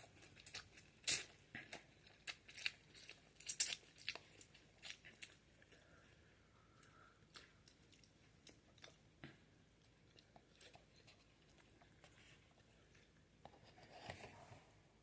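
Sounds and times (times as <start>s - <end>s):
chewing noodles with mouth clicks: 0.0s - 13.2s.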